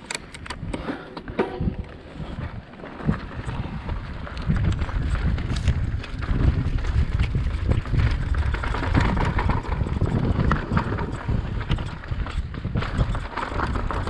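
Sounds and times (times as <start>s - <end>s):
bike rattling over bumps: 0.0s - 14.0s
wind buffeting microphone: 0.1s - 14.0s
bike tyres rumbling on dirt: 0.6s - 14.0s.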